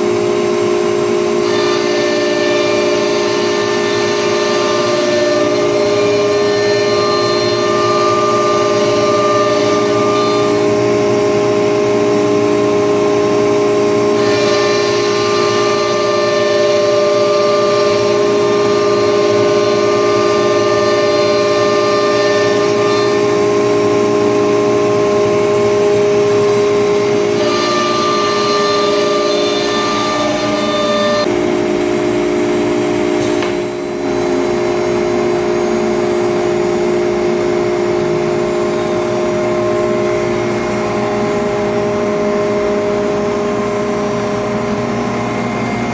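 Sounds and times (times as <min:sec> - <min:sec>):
router spindle whine: 0:00.0 - 0:45.9.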